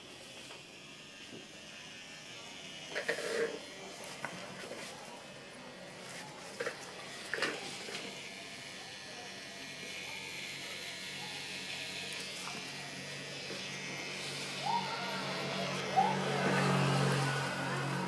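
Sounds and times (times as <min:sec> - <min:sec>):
tattoo machine buzzing: 0:00.0 - 0:18.0.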